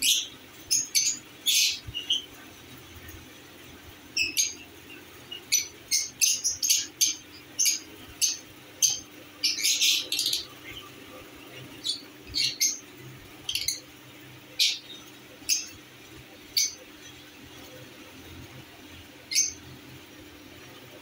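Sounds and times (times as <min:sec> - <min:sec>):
lovebirds chirping: 0:00.0 - 0:20.1.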